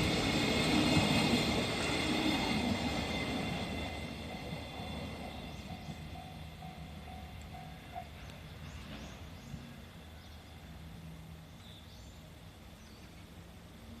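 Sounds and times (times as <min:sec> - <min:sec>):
faint low train rumble: 0:00.0 - 0:14.0.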